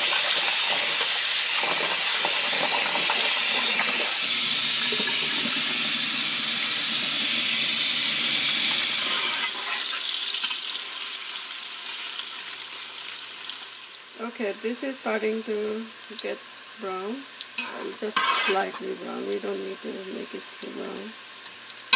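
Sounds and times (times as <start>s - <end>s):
onions sizzling in oil: 0.0s - 21.9s.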